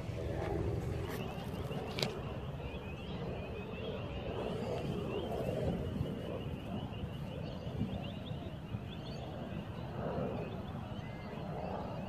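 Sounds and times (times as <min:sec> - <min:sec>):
birds chirping: 0:00.0 - 0:12.0
wind rumbling on microphone: 0:00.0 - 0:12.0.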